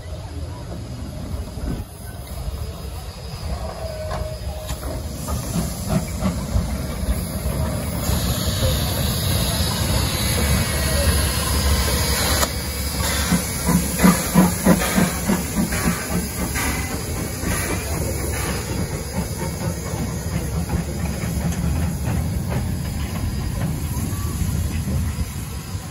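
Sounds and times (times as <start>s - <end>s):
steam hissing: 0.0s - 25.9s
train wheels rumbling on rails: 0.0s - 25.9s.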